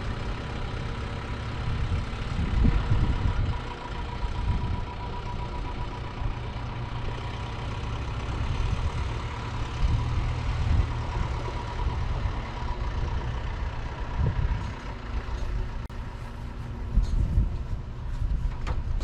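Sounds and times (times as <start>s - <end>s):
heavy vehicle engine rumbling: 0.0s - 19.0s.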